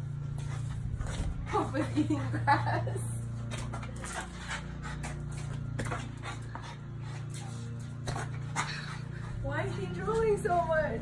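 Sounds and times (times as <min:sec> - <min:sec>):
low hum: 0:00.0 - 0:11.0
puppy panting: 0:00.3 - 0:11.0.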